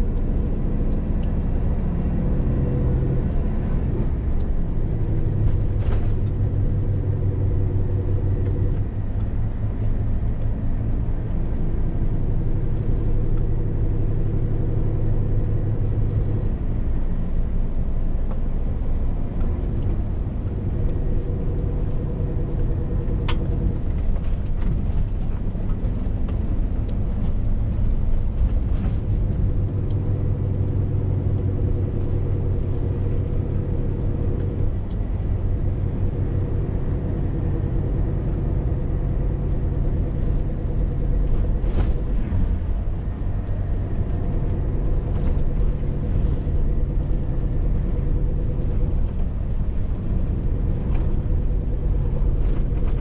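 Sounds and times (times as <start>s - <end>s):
lorry diesel engine running: 0.0s - 53.0s
road rumble: 0.0s - 53.0s.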